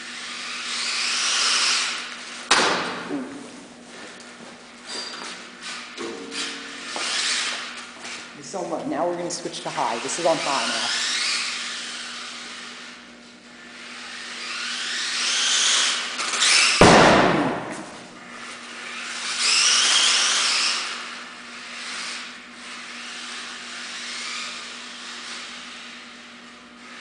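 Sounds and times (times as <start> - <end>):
rc car electric motor whining: 0.0 - 2.5, 4.8 - 8.6, 9.3 - 16.8, 18.2 - 27.0.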